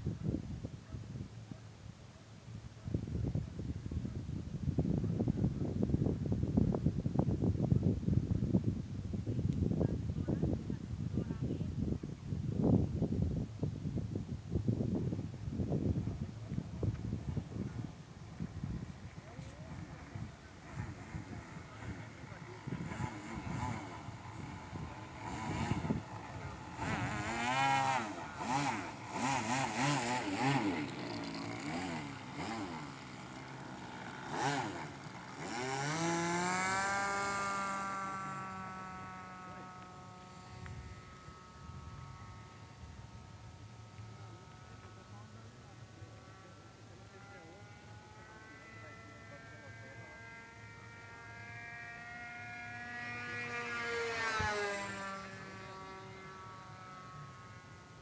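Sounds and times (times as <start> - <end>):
model airplane engine whining: 4.6 - 58.0.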